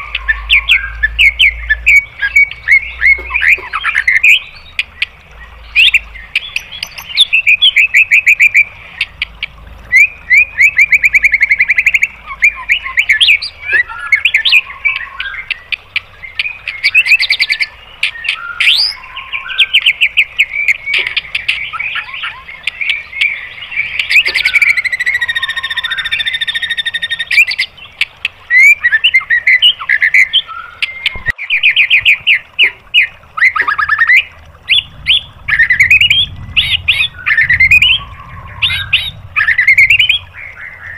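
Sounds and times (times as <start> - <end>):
songbird singing varied song: 0.0 - 40.9.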